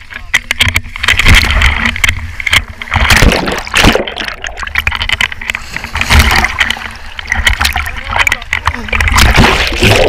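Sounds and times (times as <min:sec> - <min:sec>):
pool water splashing and gurgling: 0:01.1 - 0:10.0.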